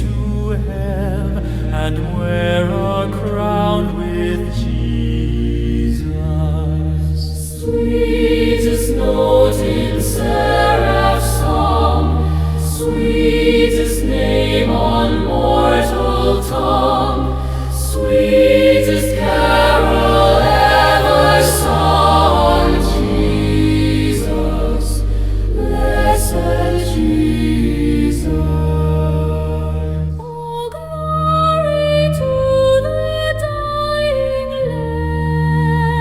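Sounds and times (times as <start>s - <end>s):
choir singing a hymn: 0.0s - 36.0s
sustained low accompaniment: 0.0s - 36.0s.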